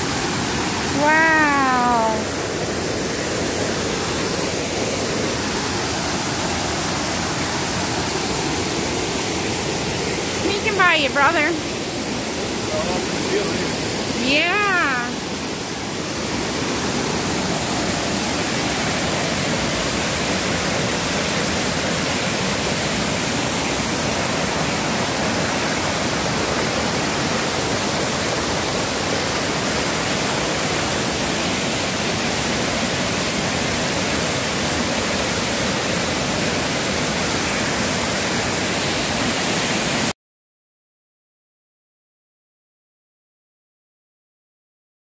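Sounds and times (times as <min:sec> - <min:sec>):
water rushing over rocks: 0:00.0 - 0:10.9, 0:11.6 - 0:40.1.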